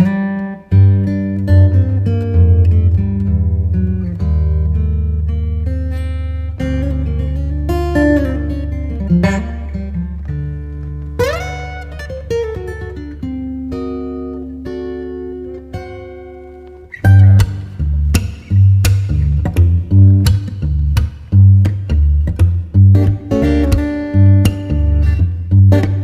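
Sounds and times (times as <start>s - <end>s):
guitar music with bass: 0.0s - 26.0s.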